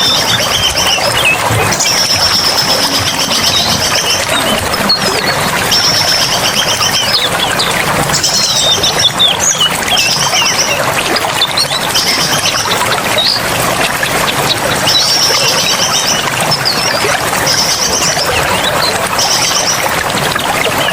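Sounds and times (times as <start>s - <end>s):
birds trilling and chirping: 0.0s - 20.9s
running water: 0.0s - 20.9s.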